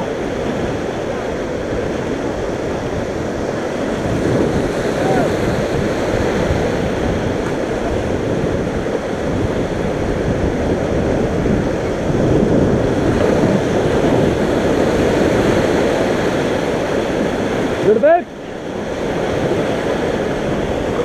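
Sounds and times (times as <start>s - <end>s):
river rapids rushing: 0.0s - 21.0s
wind buffeting microphone: 0.0s - 21.0s.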